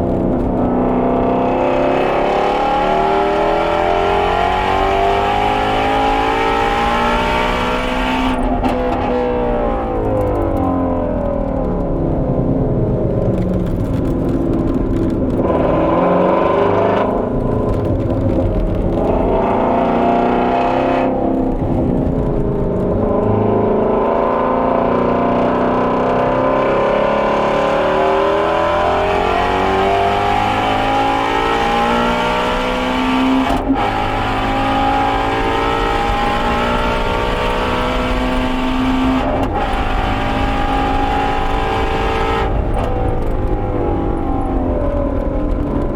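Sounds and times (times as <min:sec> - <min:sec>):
car engine revving hard: 0:00.0 - 0:10.6, 0:18.6 - 0:45.9.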